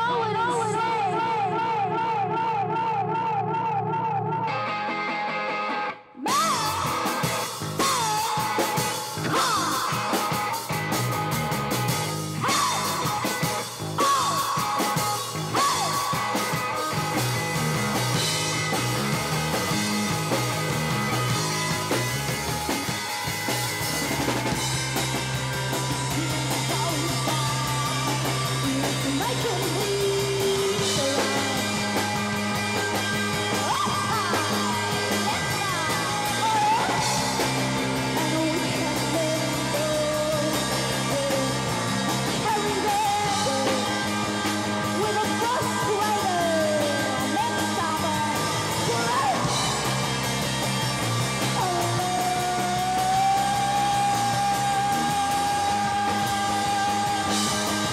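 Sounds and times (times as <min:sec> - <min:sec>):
person singing: 0:00.0 - 0:05.1, 0:06.2 - 0:10.8, 0:12.3 - 0:20.4, 0:25.8 - 0:50.2, 0:51.3 - 0:57.9
rock band playing live: 0:00.0 - 0:57.9.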